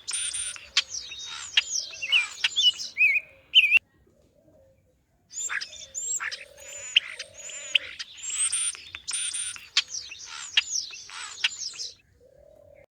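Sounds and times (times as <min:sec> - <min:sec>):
birds chirping and singing: 0:00.0 - 0:03.8, 0:05.3 - 0:12.0.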